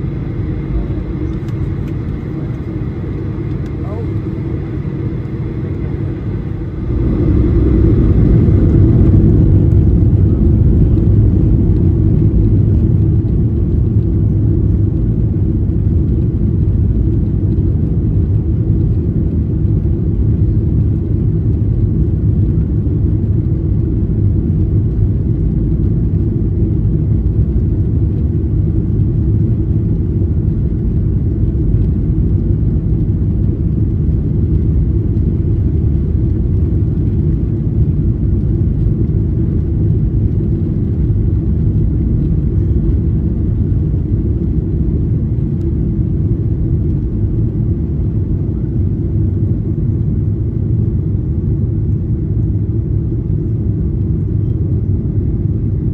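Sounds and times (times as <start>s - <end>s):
jet engines at takeoff thrust: 0.0s - 55.9s
wheels rumbling over runway: 0.0s - 55.9s.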